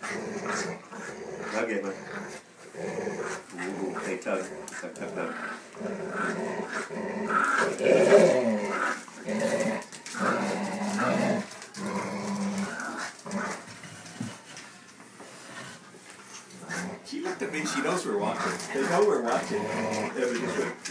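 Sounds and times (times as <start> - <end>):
dogs growling in play: 0.0 - 20.9.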